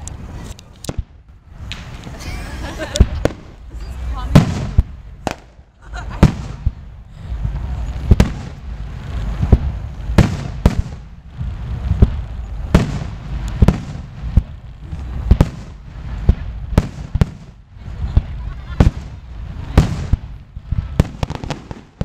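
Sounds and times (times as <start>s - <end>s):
low rumble and crackle: 0.0s - 22.0s.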